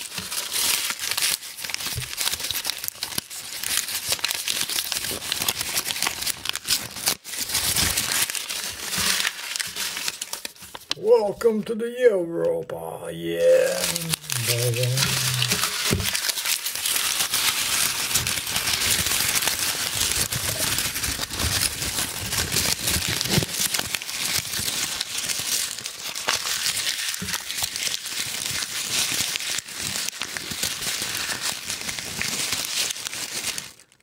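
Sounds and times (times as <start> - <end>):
banknotes crumpling: 0.0 - 11.0, 13.5 - 34.0.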